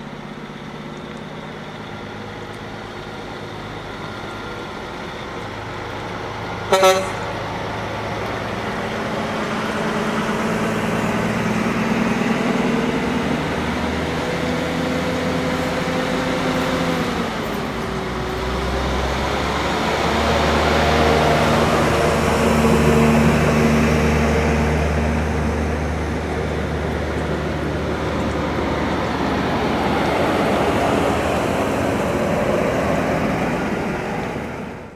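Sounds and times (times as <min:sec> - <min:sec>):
heavy engine humming: 0:00.0 - 0:34.9.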